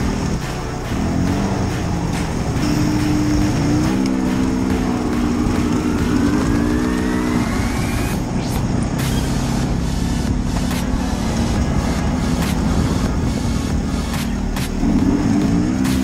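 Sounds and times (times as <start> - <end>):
vehicle engine running hard: 0.0 - 16.0.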